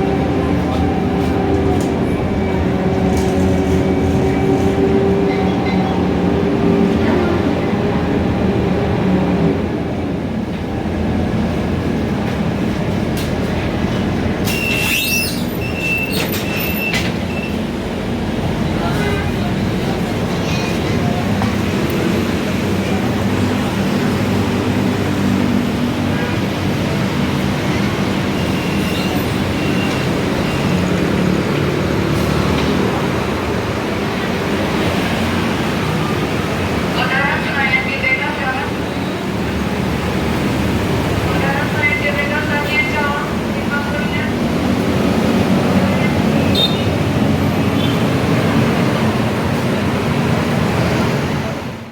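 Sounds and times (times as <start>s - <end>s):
bus engine low rumble: 0.0s - 51.9s.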